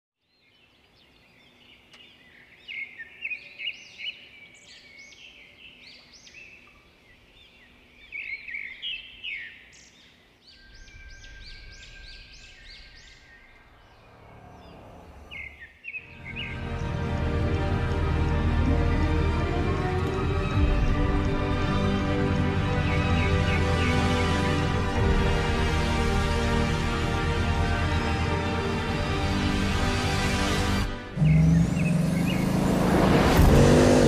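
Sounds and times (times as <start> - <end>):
birds chirping and singing: 0.3 - 30.5, 31.1 - 32.8.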